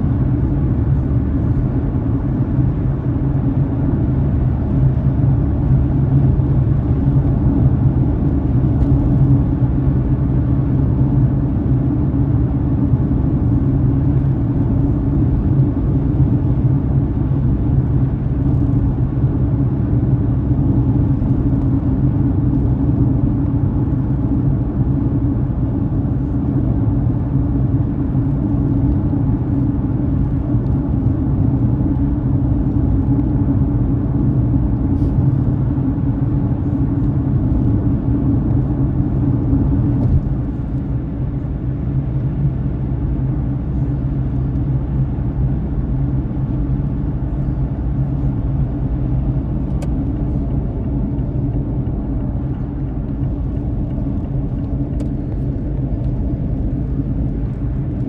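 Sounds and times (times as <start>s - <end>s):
car engine and tyres rumbling: 0.0s - 58.0s
steady low hum: 0.0s - 58.0s.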